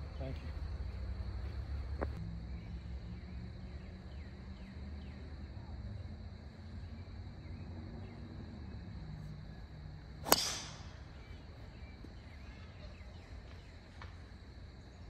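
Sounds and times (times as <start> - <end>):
insect drone: 0.0 - 15.0.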